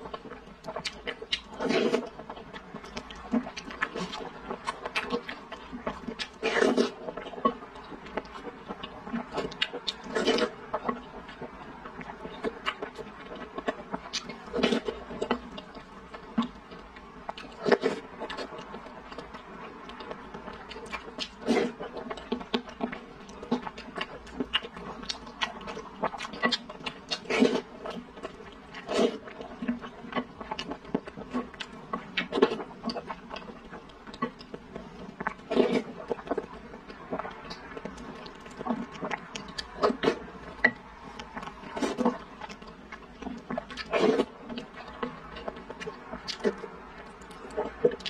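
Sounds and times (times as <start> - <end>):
faint steady hum: 0.0 - 48.0
wet chewing and mouth sounds: 0.0 - 48.0.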